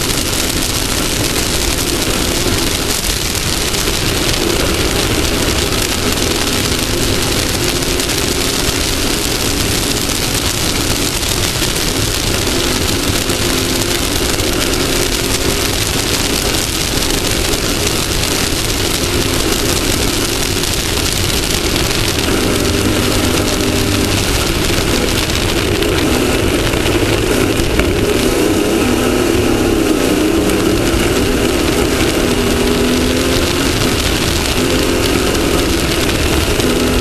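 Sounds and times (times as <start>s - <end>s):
buggy engine under load: 0.0s - 37.0s
wind and terrain noise: 0.0s - 37.0s.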